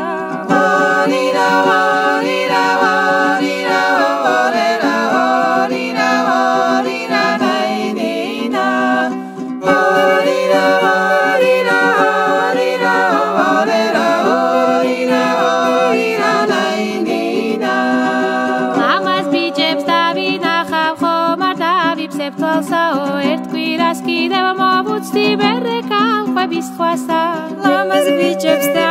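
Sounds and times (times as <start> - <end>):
voices singing in harmony: 0.0 - 21.7, 27.0 - 28.9.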